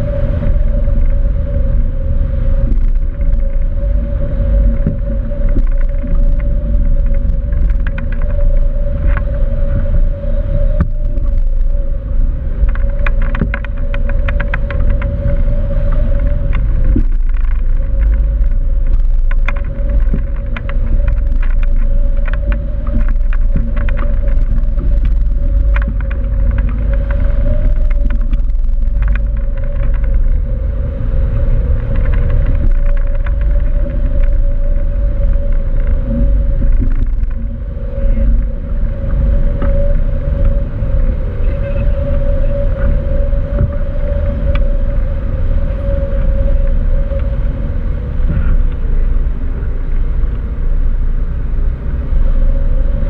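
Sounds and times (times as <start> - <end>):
steady hum: 0.0 - 53.0
wind buffeting microphone: 0.0 - 53.0.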